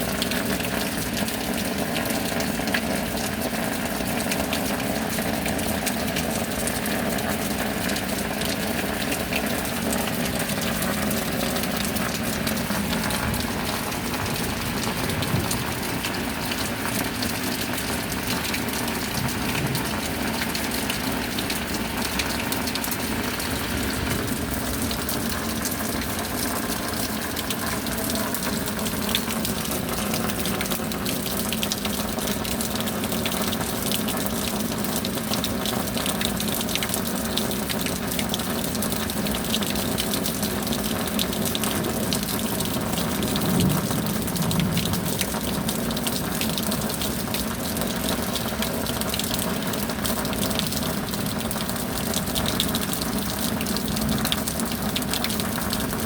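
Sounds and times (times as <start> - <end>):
gushing water: 0.0 - 56.0
steady rain: 0.0 - 56.0.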